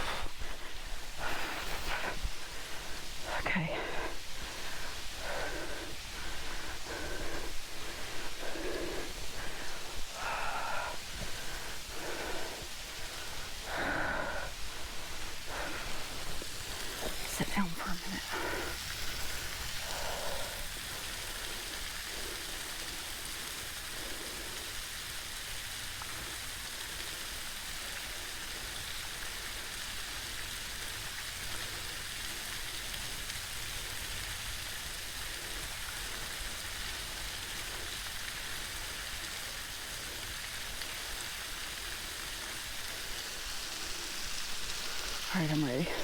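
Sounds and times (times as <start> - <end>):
waterfall hissing: 0.0 - 46.0.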